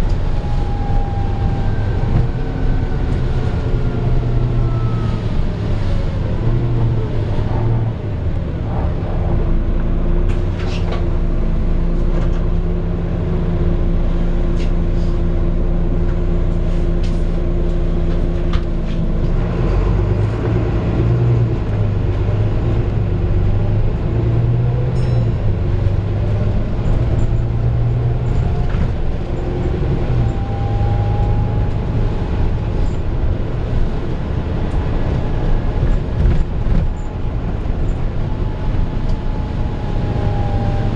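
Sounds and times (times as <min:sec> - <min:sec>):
bus diesel engine running: 0:00.0 - 0:40.9
rattles and clicks from bus body: 0:00.0 - 0:40.9.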